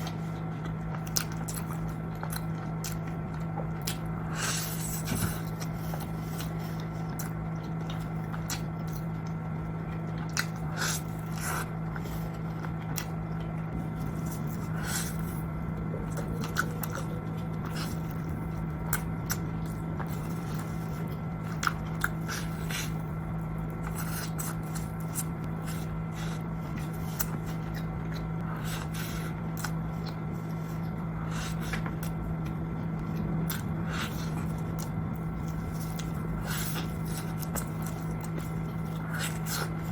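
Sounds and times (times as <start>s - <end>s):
crunchy bites and chewing: 0.0s - 39.9s
steady low hum: 0.0s - 39.9s.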